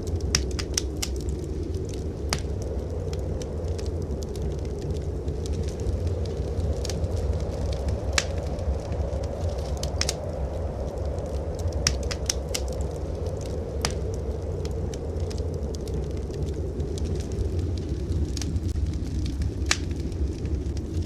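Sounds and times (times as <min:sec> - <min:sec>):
steady low rumble: 0:00.0 - 0:21.0
wood fire crackling: 0:00.0 - 0:21.0.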